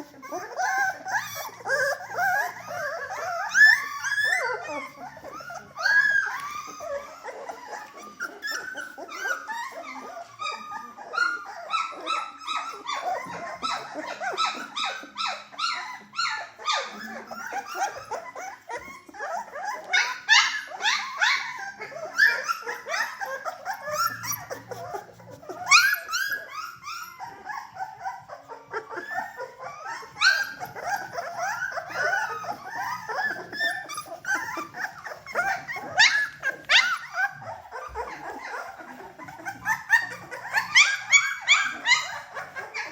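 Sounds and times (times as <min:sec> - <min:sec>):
puppies whimpering and squeaking: 0:00.0 - 0:42.9
puppies yipping: 0:00.0 - 0:42.9.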